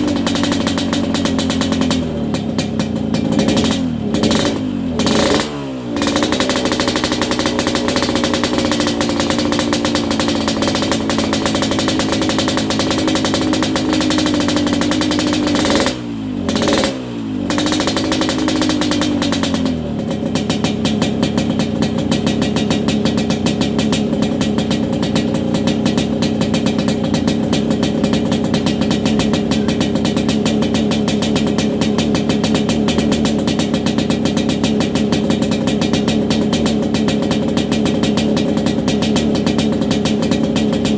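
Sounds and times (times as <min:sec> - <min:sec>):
two-stroke motorcycle engine running: 0:00.0 - 0:40.9.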